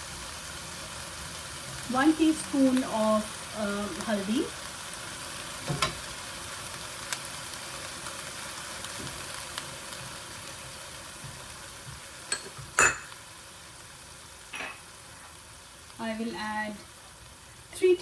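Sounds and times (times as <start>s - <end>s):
chicken sizzling in a pot: 0.0s - 18.0s.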